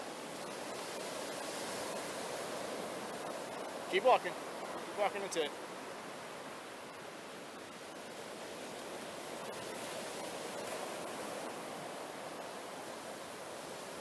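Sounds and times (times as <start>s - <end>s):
ocean waves on beach: 0.0s - 14.0s.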